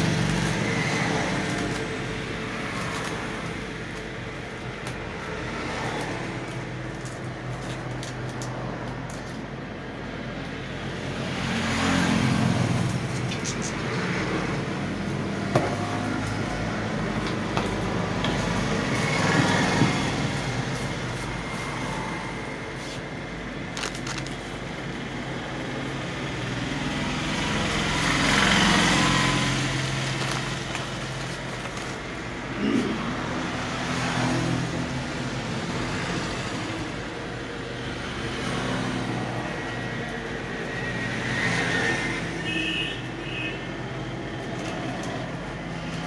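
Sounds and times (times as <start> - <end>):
road traffic rumbling: 0.0 - 46.0.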